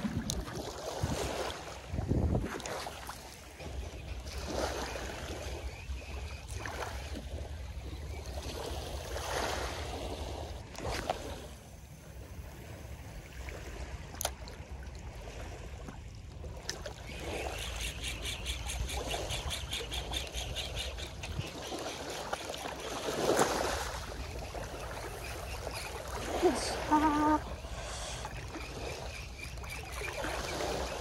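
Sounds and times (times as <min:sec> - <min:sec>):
small waves washing on shore: 0:00.0 - 0:19.6, 0:20.2 - 0:31.0.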